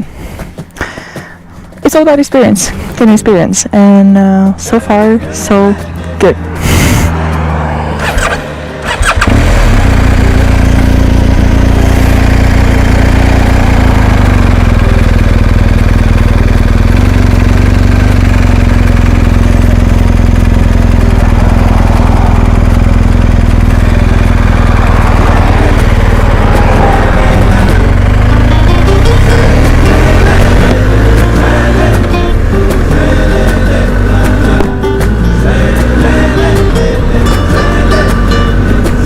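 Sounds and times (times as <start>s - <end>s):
motorcycle engine running: 1.4s - 39.0s.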